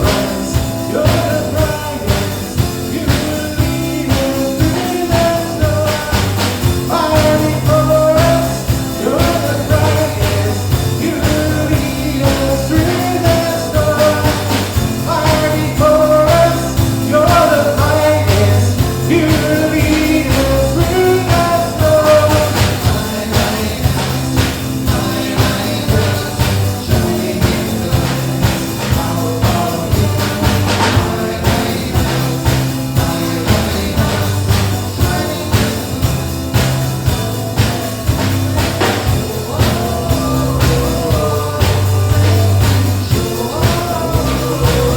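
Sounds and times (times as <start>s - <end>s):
band playing with drums and bass: 0.0s - 44.9s
person singing: 0.0s - 44.9s.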